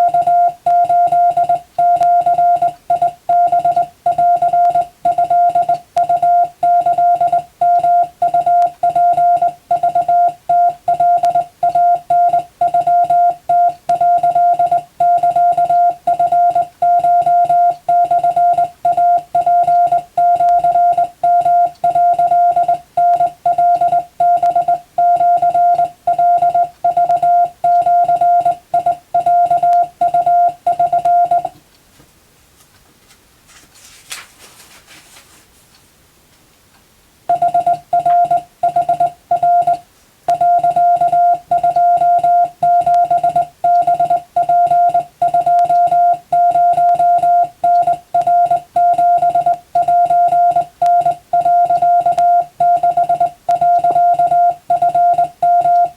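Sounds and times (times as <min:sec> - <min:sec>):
morse code beeps: 0:00.0 - 0:31.6, 0:37.3 - 0:55.9.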